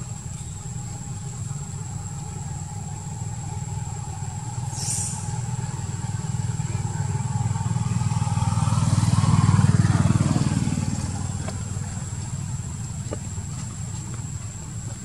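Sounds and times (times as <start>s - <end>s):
vehicle engine approaching: 0.0s - 15.0s.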